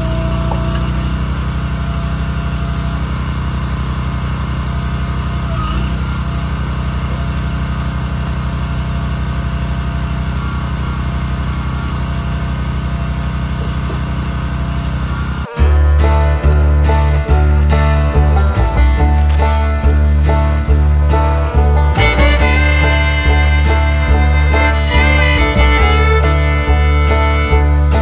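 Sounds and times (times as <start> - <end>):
small gas engine running: 0.0 - 28.0.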